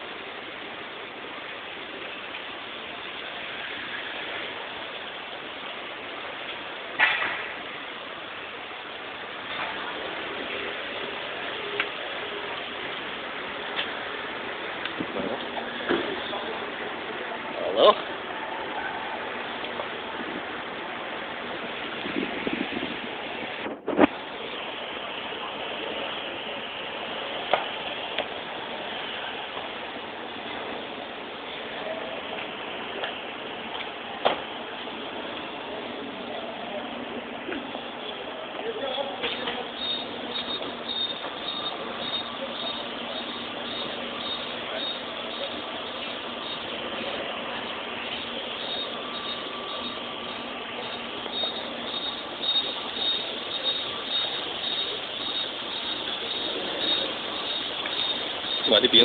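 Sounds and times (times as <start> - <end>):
city traffic: 0.0 - 59.0
street and crowd noise: 0.0 - 59.0
faint voices: 7.6 - 59.0.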